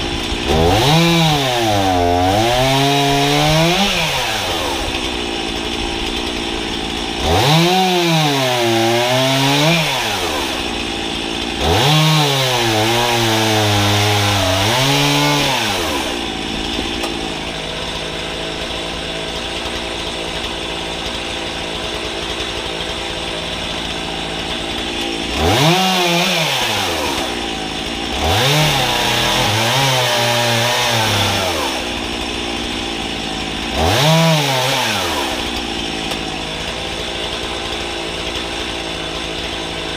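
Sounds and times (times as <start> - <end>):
chainsaw cutting logs: 0.0 - 39.9
chainsaw idling: 0.0 - 39.9.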